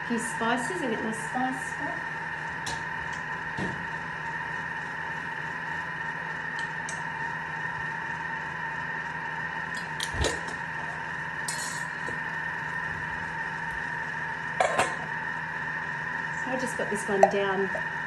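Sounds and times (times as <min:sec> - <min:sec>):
kitchen appliance motor whine: 0:00.0 - 0:18.0.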